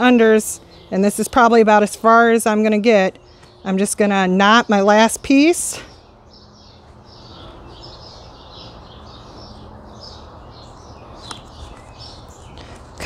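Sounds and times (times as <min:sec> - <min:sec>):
birds chirping: 0:00.0 - 0:13.0
low outdoor hum: 0:00.0 - 0:13.0.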